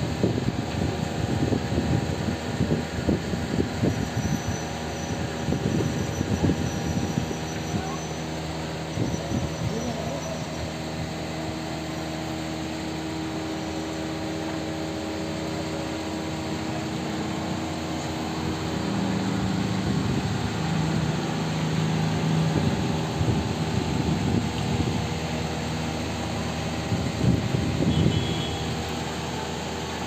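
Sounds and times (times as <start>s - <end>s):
wash of noise: 0.0s - 30.0s.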